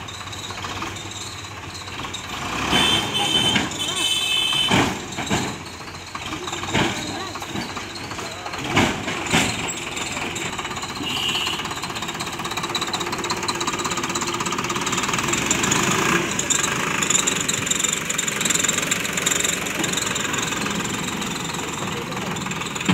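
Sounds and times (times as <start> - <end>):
diesel tractor engine clattering: 0.0 - 22.9.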